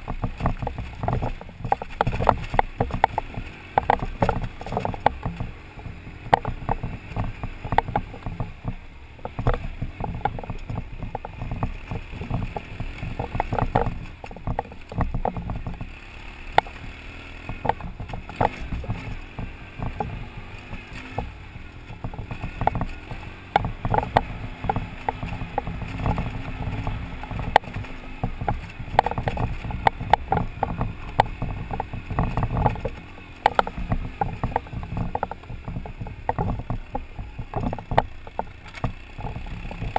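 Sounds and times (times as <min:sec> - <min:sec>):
bike knocking and rattling: 0:00.0 - 0:39.9
motorcycle engine running: 0:00.0 - 0:39.9.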